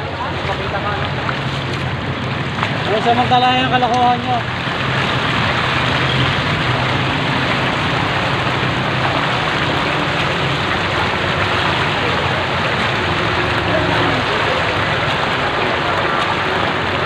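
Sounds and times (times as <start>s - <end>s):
water splashing under wheels: 0.0s - 17.0s.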